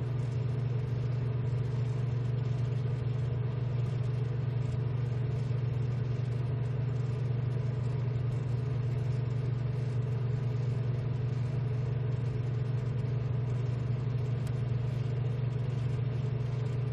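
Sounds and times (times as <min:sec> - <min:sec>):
low machine hum: 0:00.0 - 0:16.9.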